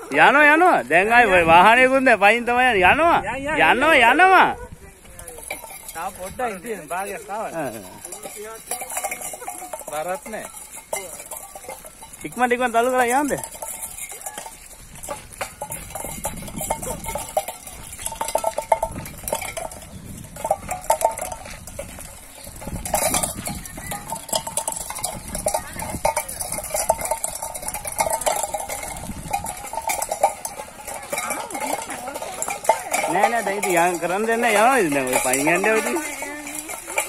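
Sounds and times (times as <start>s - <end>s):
metal wheelbarrow rattling: 0.0s - 37.0s.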